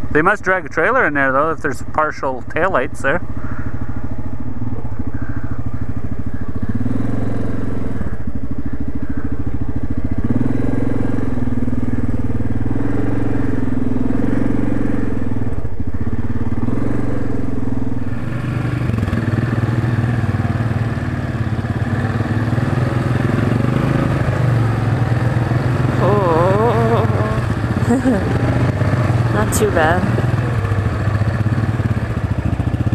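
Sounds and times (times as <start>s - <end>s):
atv engine revving: 0.0s - 32.9s.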